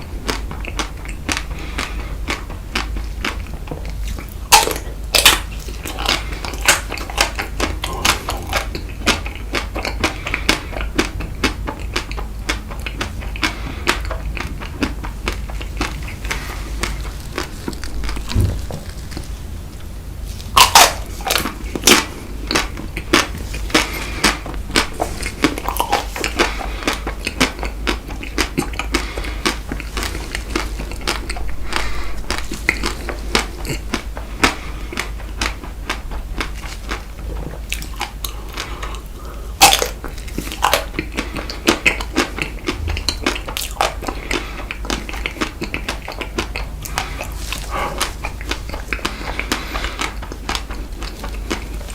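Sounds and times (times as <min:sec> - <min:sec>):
crunching frozen ice cream: 0:00.0 - 0:51.9
wet chewing: 0:00.0 - 0:51.9.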